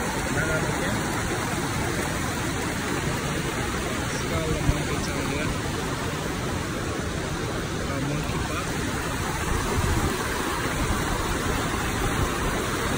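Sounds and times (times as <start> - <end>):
river pouring over weir: 0.0 - 12.9.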